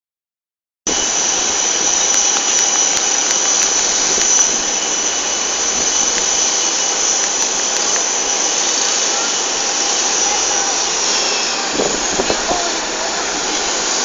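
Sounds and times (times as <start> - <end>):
jet engines whining: 0.9 - 14.0.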